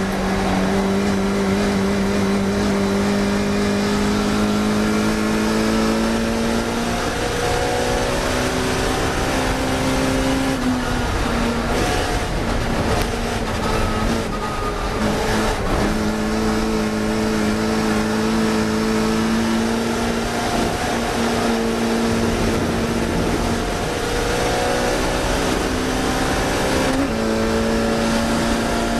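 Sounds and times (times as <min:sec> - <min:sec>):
race car engine at high revs: 0:00.0 - 0:28.9.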